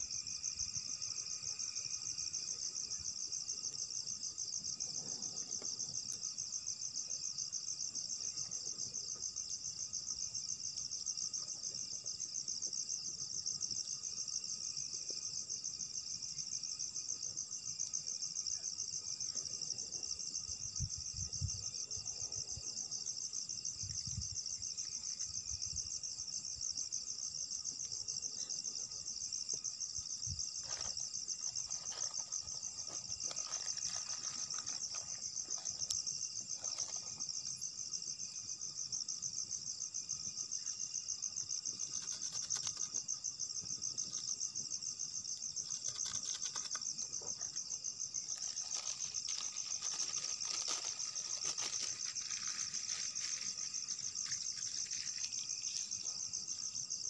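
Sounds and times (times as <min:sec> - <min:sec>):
insect chorus trilling: 0:00.0 - 0:57.0.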